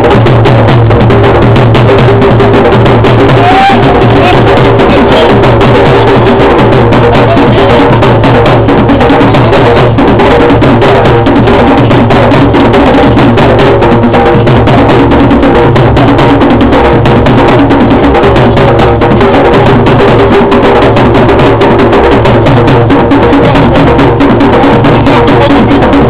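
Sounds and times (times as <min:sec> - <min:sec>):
drum-led dance music: 0:00.0 - 0:26.0.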